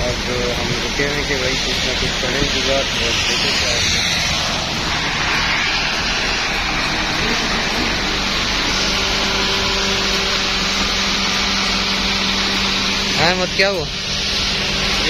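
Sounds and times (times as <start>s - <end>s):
heavy rain pouring: 0.0s - 15.0s
steady low hum: 0.0s - 15.0s.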